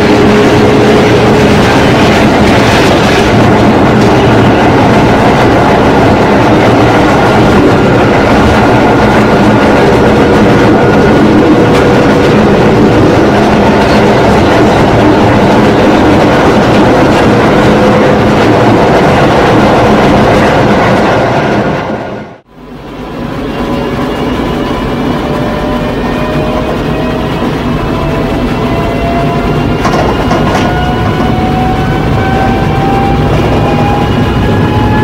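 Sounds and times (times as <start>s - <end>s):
rumble of train wheels: 0.0s - 35.0s.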